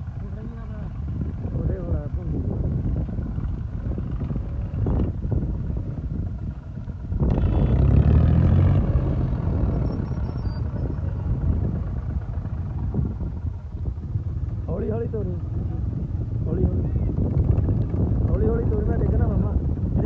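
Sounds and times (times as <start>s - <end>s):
tractor diesel engine running: 0.0s - 8.0s, 8.8s - 20.0s.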